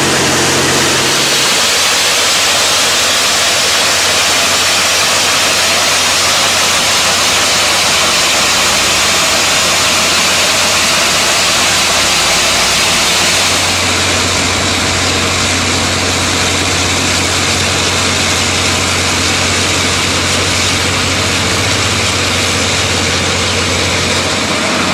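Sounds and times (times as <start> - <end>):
heavy truck engines humming: 0.0 - 24.9
water jets blasting concrete: 0.0 - 24.9.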